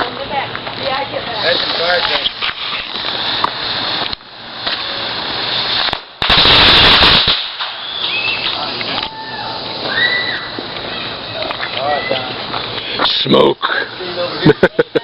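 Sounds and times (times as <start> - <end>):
firecrackers cracking: 0.0 - 15.0.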